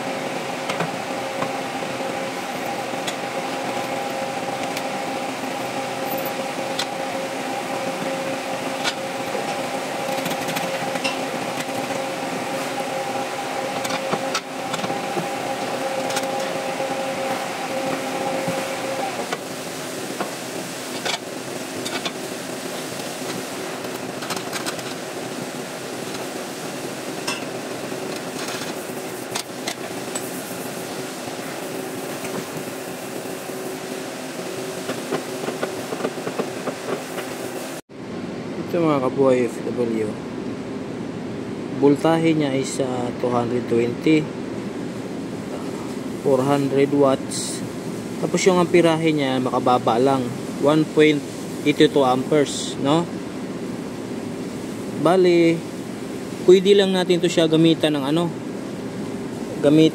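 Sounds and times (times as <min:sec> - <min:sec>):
air coolers whooshing: 0:00.0 - 0:59.9.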